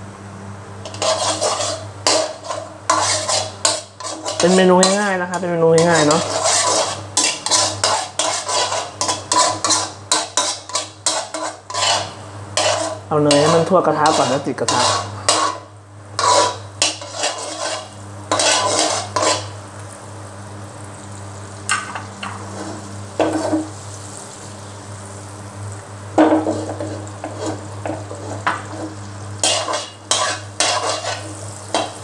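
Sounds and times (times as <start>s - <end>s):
steady low hum: 0.0s - 32.0s
metal spatula scraping wok: 0.8s - 19.6s, 21.7s - 23.7s, 26.2s - 32.0s
butter sizzling: 0.8s - 32.0s.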